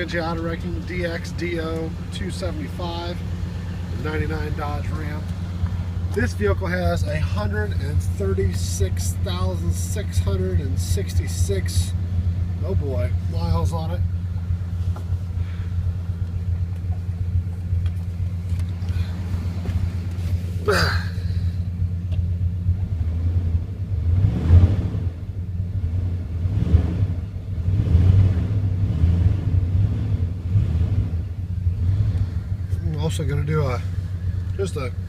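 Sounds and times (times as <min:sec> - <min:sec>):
truck engine idling and revving: 0:00.0 - 0:35.0.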